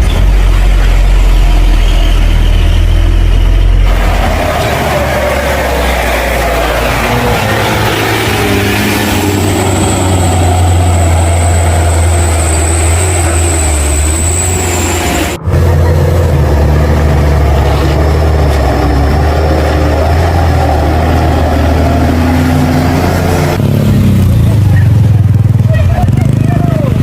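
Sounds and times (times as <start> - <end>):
heavy truck engine running: 0.0 - 27.0.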